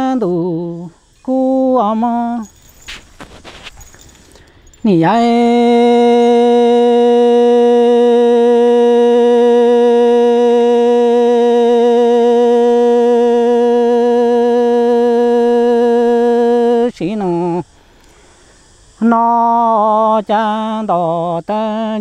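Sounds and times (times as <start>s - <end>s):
person singing a long note: 0.0s - 2.5s, 4.9s - 17.6s, 19.0s - 22.0s.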